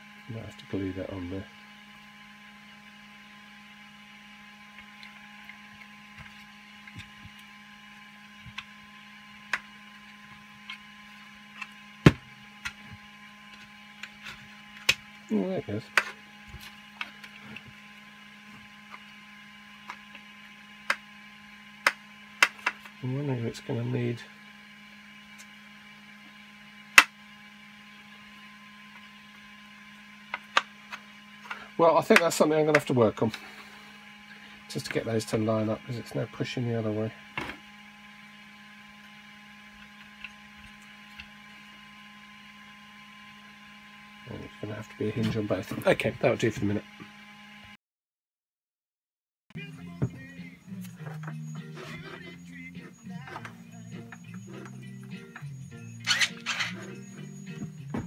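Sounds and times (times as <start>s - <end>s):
steady low hum: 0.0s - 47.8s, 49.6s - 58.0s.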